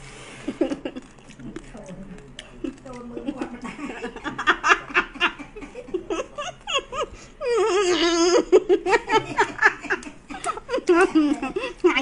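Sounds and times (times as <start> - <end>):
laughter: 0.5 - 1.1, 2.6 - 11.9.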